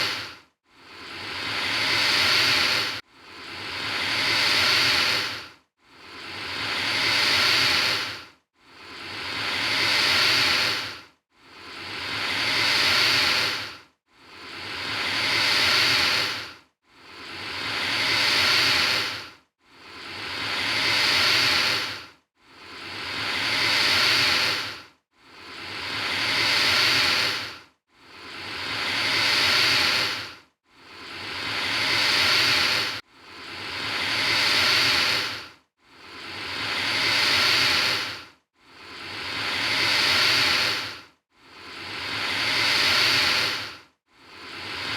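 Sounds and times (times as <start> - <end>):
alligator hissing: 0.0 - 0.3, 0.9 - 5.4, 6.1 - 8.2, 8.8 - 11.0, 11.6 - 19.2, 19.9 - 22.0, 22.7 - 24.8, 25.4 - 27.6, 28.2 - 30.3, 30.9 - 35.4, 36.0 - 41.0, 41.6 - 43.7.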